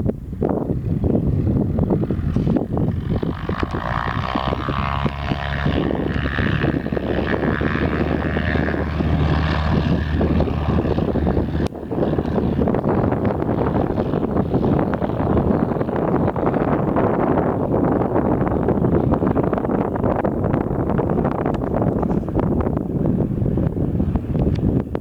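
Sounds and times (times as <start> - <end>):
propeller airplane engine droning: 0.0 - 25.0
wind buffeting microphone: 0.0 - 25.0.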